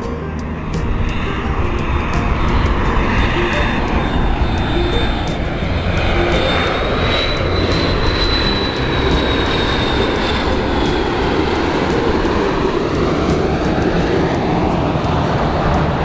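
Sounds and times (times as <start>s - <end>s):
high engine whine: 0.0s - 16.0s
jet engines running: 0.0s - 16.0s.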